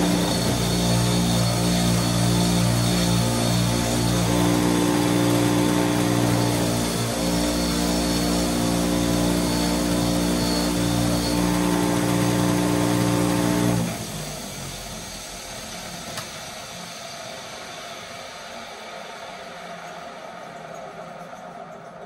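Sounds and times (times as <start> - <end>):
wire wheel motor hum: 0.0 - 18.2.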